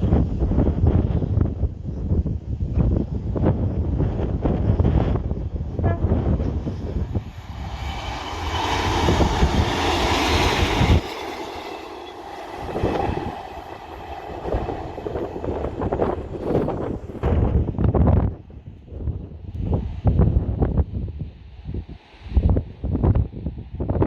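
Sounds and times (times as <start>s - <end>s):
diesel train passing: 0.0s - 20.7s
wind buffeting microphone: 0.0s - 24.0s.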